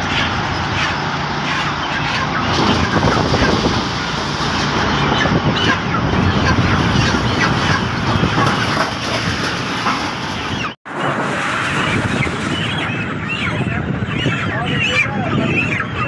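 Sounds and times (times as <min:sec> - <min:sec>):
chickens squawking and clucking: 0:00.0 - 0:16.0.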